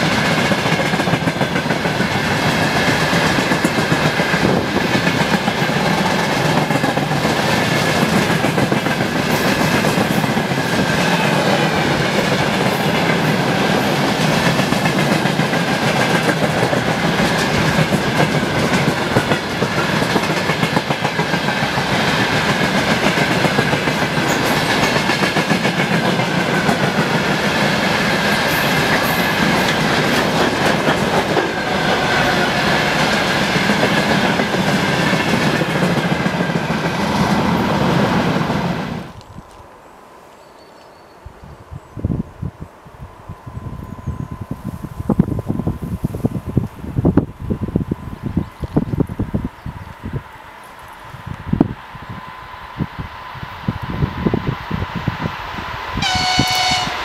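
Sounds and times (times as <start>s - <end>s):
train wheels rumbling on rails: 0.0s - 39.5s, 43.2s - 57.0s.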